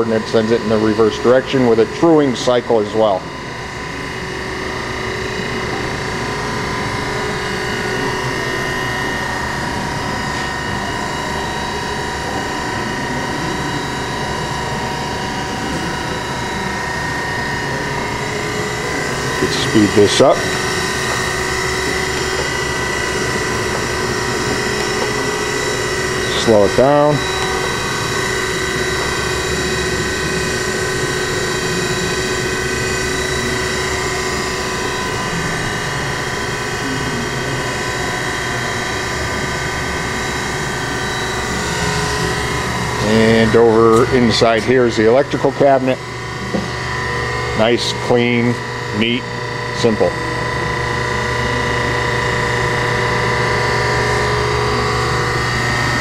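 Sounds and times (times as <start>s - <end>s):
surface grinder humming and whining: 0.0s - 56.0s.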